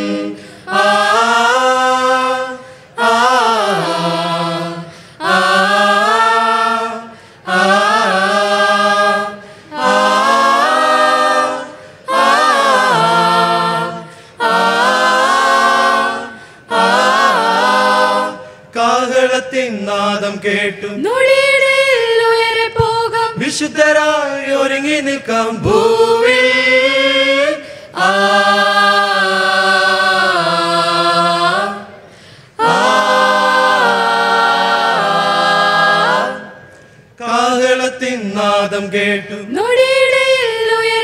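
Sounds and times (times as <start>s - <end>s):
vocal group singing a cappella: 0.0s - 41.0s.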